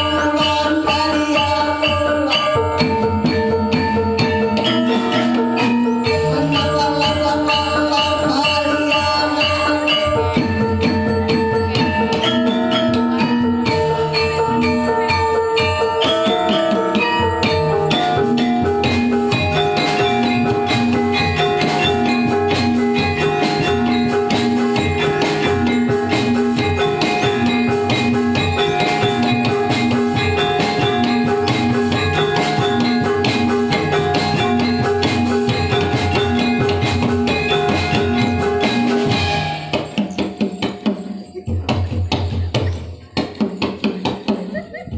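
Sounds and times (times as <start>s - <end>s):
drums: 0.0s - 44.9s
metallophones ringing: 0.0s - 44.9s.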